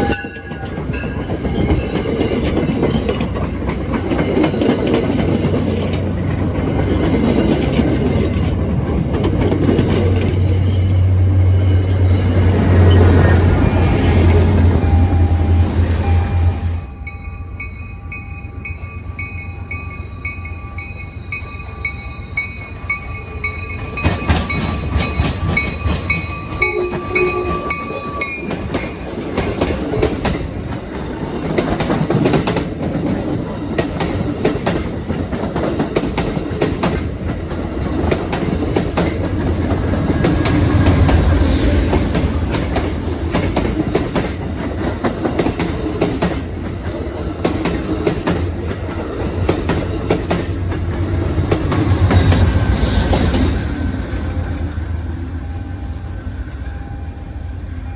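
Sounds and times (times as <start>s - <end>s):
train wheels clacking: 0.0s - 16.7s, 22.4s - 54.9s
train rumble: 0.0s - 57.9s.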